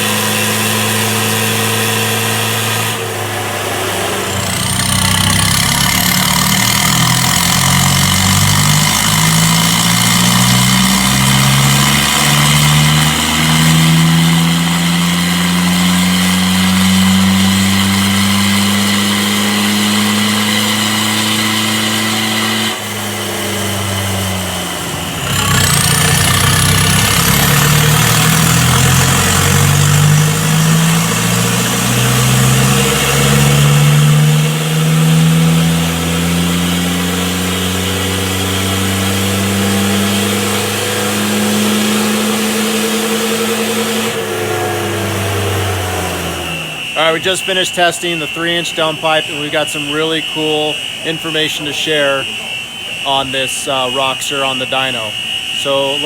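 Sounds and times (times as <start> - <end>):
diesel engine revving: 0.0 - 56.0
turbo whistle: 0.0 - 56.0.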